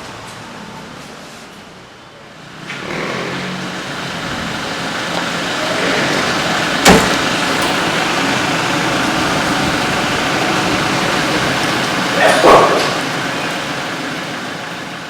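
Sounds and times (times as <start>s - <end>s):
steady engine noise: 2.2s - 15.0s.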